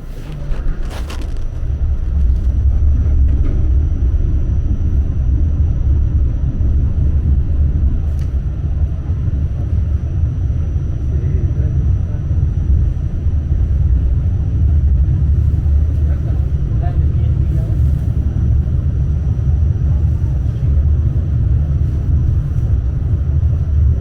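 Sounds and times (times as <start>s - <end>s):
subway train on elevated track: 1.5s - 24.0s.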